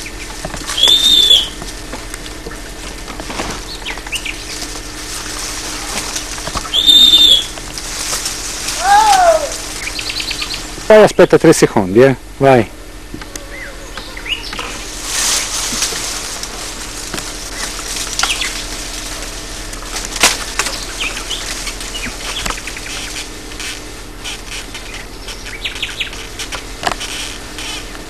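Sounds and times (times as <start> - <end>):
birds chirping faintly: 0.0 - 1.6, 3.5 - 7.8, 8.7 - 27.9
branches cracking: 0.0 - 11.2, 13.0 - 28.0
leaves and branches rustling: 0.0 - 28.0.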